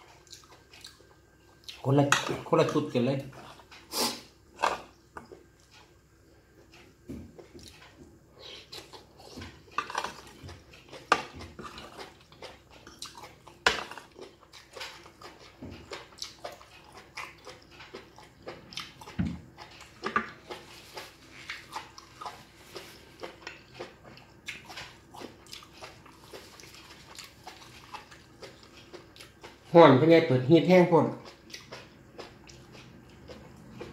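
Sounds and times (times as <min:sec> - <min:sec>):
wet chewing and slurping: 0:00.0 - 0:01.9, 0:03.3 - 0:05.9, 0:06.7 - 0:29.7, 0:31.2 - 0:33.9.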